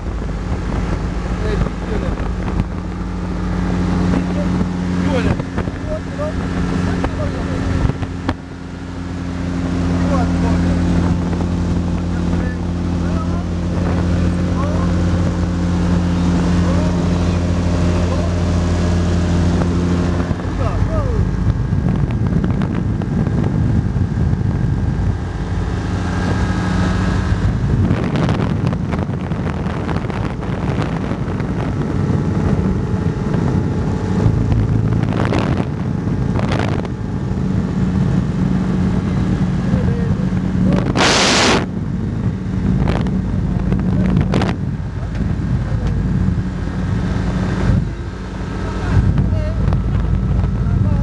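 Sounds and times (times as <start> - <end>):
light aircraft engine droning: 0.0 - 51.0
loud rush of noise: 0.0 - 51.0
wind buffeting microphone: 0.0 - 51.0.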